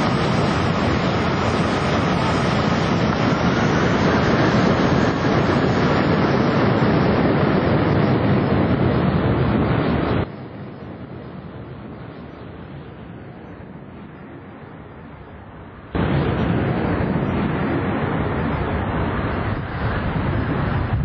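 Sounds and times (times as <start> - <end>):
jet engines at takeoff: 0.0 - 21.0
wind buffeting microphone: 0.0 - 21.0.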